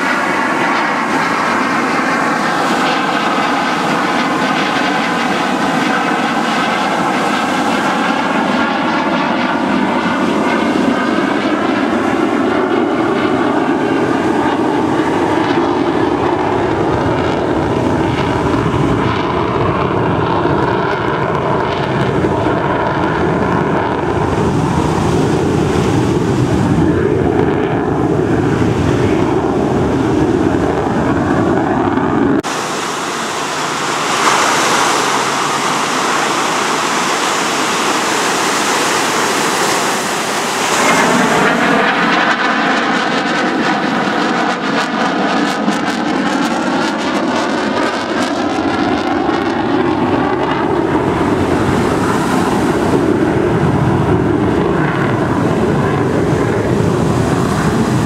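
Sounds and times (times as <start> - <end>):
fighter jet roar: 0.0 - 58.0.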